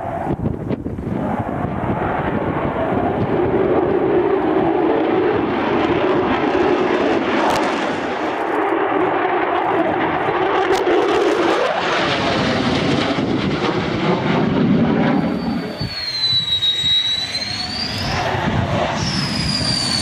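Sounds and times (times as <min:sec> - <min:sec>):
military aircraft engine: 0:00.0 - 0:20.0.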